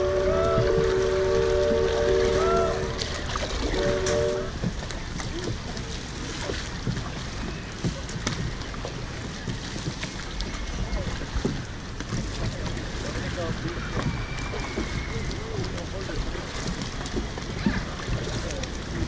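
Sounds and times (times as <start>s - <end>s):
paddles splashing and knocking: 0.0s - 19.0s.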